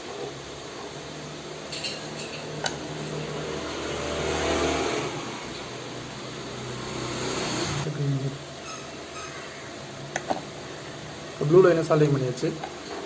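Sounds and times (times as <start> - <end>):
road traffic rushing: 0.5 - 12.0.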